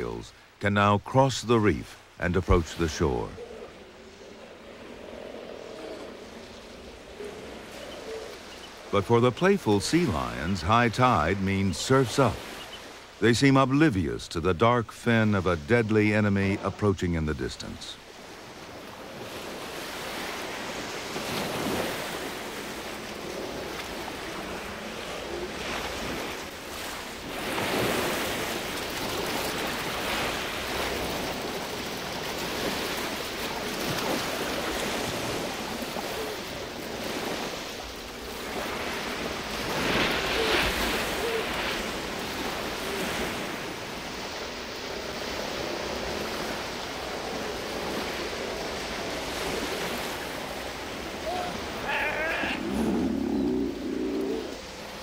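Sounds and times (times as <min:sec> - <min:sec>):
waves breaking on a pebble beach: 0:00.0 - 0:55.0.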